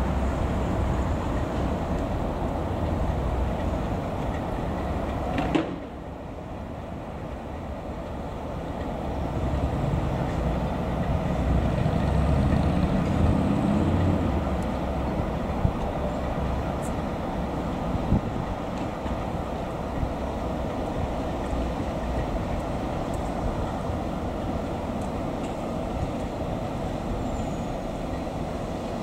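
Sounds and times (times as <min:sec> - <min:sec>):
steam locomotive rumbling: 0:00.0 - 0:29.0.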